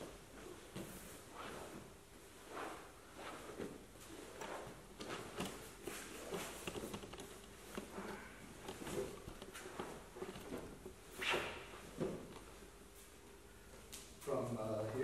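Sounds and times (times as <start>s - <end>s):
fabric rustling: 0.0s - 13.7s
body scuffing on mats: 0.0s - 14.2s.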